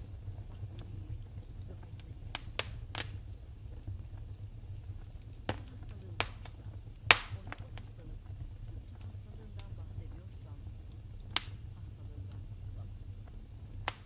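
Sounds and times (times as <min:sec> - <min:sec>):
low steady rumble: 0:00.0 - 0:14.0
sharp pops of burning wood: 0:00.0 - 0:14.0
wood fire crackling: 0:00.0 - 0:14.0.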